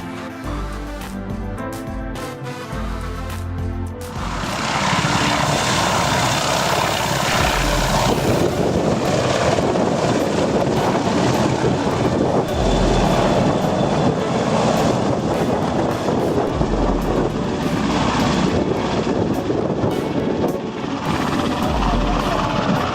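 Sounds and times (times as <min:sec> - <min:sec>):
aircraft flying by: 0:02.2 - 0:22.9.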